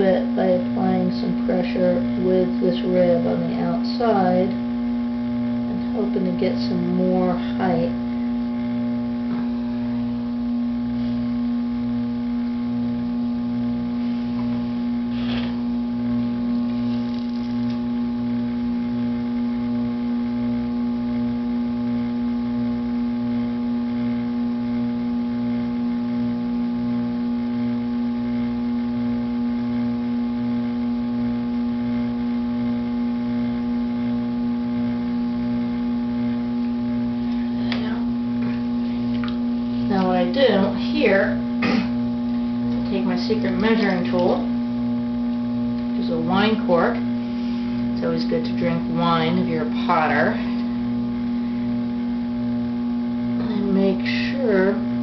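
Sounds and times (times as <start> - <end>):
potter's wheel motor hum: 0.0 - 55.0.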